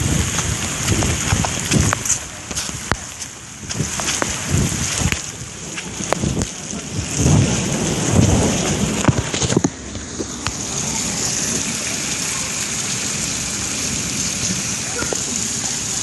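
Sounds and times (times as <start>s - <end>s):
heavy rain hiss: 0.0s - 16.0s
raindrops ticking on surfaces: 0.0s - 16.0s.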